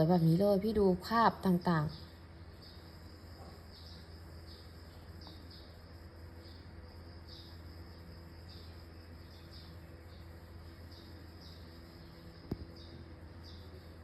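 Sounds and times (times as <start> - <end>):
insect chirping: 0.0 - 14.0
low steady hum: 0.0 - 14.0.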